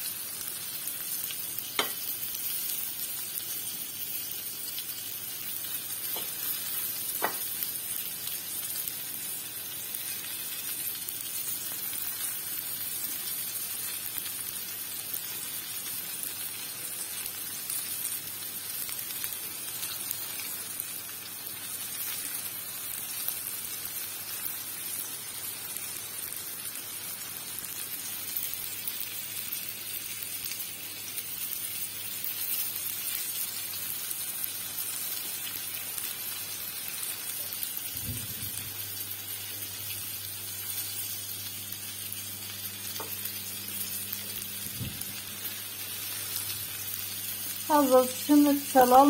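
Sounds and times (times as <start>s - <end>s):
chicken sizzling in a frying pan: 0.0s - 49.0s.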